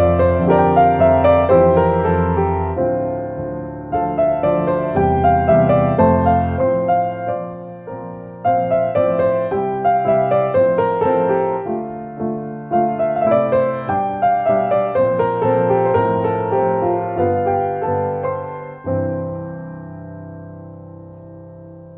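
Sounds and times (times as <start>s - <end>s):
solo piano melody: 0.0s - 21.9s.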